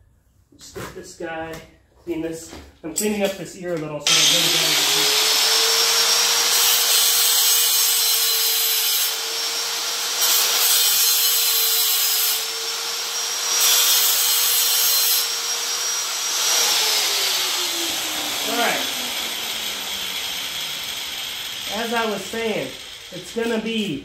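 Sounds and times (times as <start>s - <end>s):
angle grinder grinding steel: 4.1s - 24.0s.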